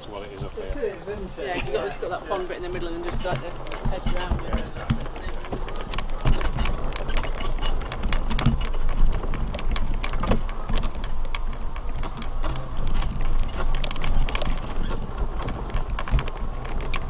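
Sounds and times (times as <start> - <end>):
mobility scooter motor hum: 0.0 - 17.0
scooter rattling over ground: 0.0 - 17.0.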